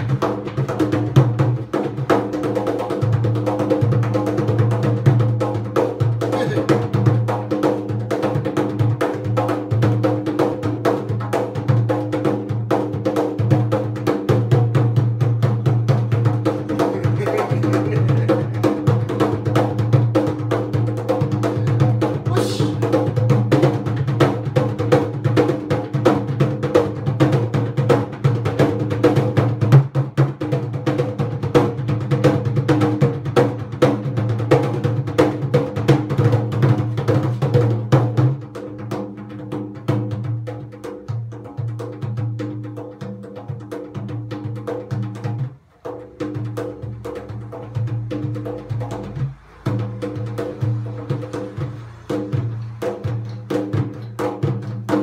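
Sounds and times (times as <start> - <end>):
hand drum fast rhythm: 0.0 - 55.0.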